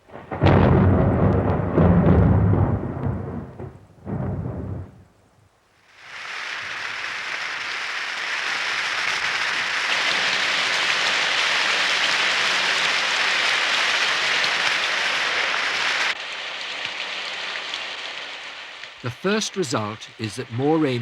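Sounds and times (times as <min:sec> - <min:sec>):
heavy rain pouring: 0:00.0 - 0:05.0, 0:05.8 - 0:21.0.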